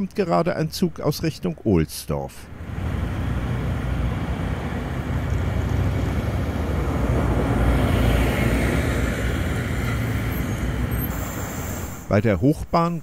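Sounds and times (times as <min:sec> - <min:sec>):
city traffic rumble: 0:00.0 - 0:12.9.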